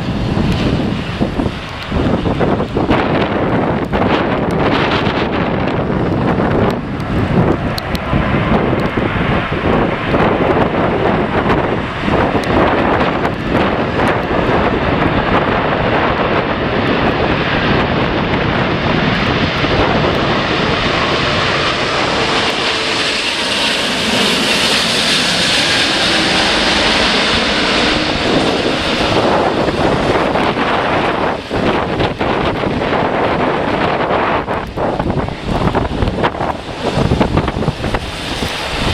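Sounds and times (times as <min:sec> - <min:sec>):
jet engines whining: 0:00.0 - 0:38.9
wind buffeting microphone: 0:00.0 - 0:38.9.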